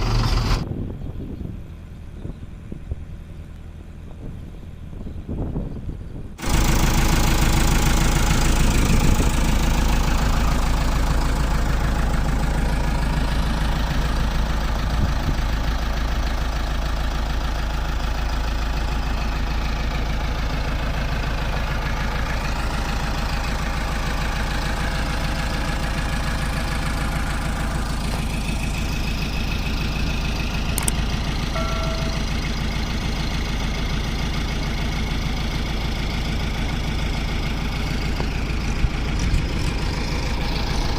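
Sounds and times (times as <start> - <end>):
diesel engine rumbling: 0.0 - 40.9.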